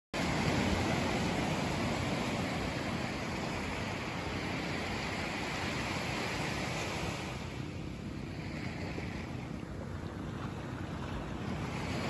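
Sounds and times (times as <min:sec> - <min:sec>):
surf washing up beach: 0:00.2 - 0:12.0
wind rumbling on microphone: 0:00.2 - 0:12.0.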